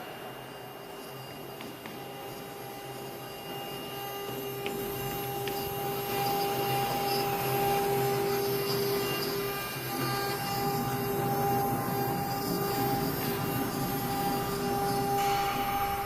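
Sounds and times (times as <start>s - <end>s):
spindle motor whine: 0.0s - 16.0s.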